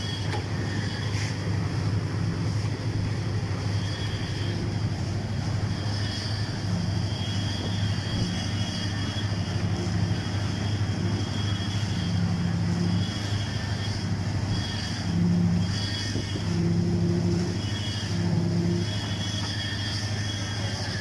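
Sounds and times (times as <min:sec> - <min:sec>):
engine humming steadily: 0:00.0 - 0:21.0.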